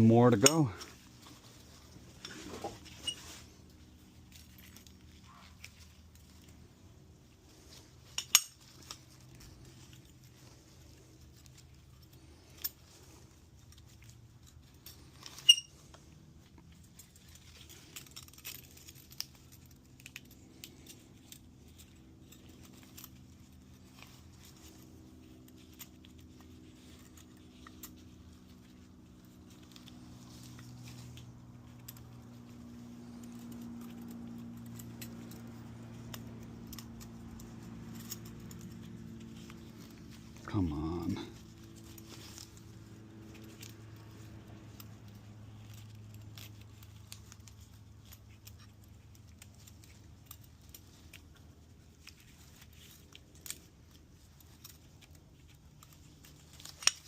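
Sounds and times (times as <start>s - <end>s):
low steady hum: 0.0s - 57.0s
metal tools clinking: 0.0s - 57.0s.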